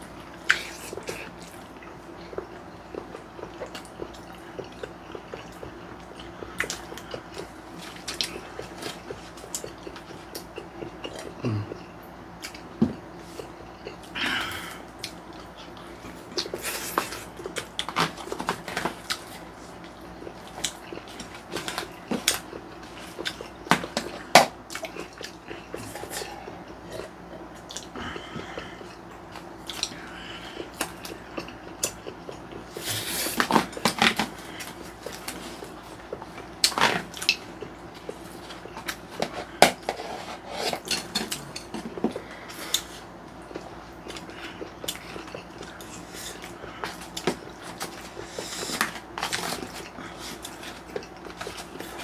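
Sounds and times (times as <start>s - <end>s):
people chewing: 0.0s - 52.0s.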